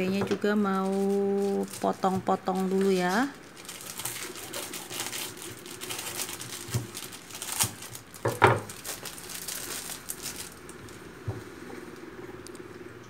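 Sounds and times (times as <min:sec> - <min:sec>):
plastic wrapping crinkling: 0:00.0 - 0:12.1.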